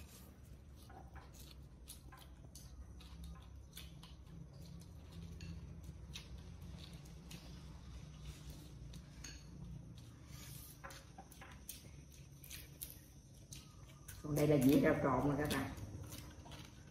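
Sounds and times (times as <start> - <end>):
chewing crunchy food: 0.0 - 16.9.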